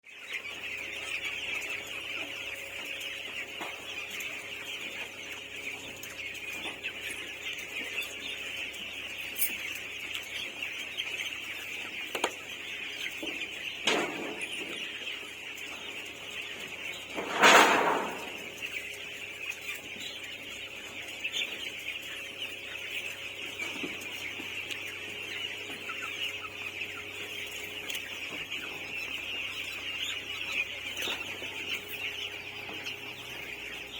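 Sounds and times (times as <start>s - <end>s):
chickens clucking: 0.0s - 33.9s.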